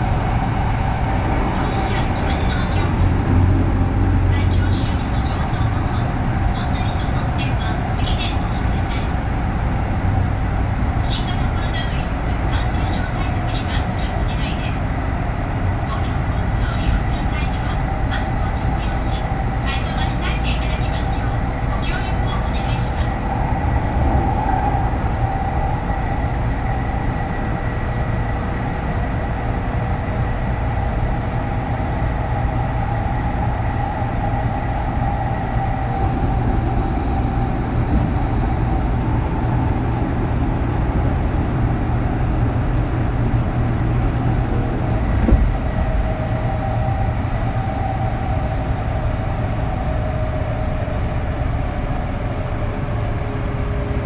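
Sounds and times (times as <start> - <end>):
wheel and track rumble: 0.0 - 54.0.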